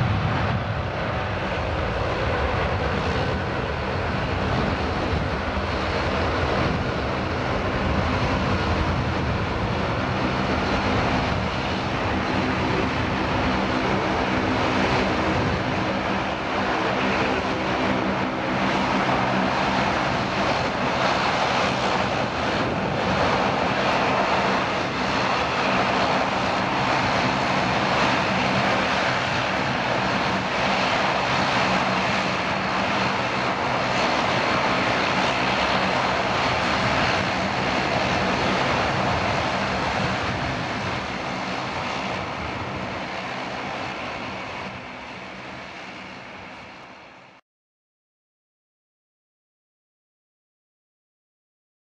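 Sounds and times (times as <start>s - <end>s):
jet engine roar at takeoff: 0.0s - 47.4s.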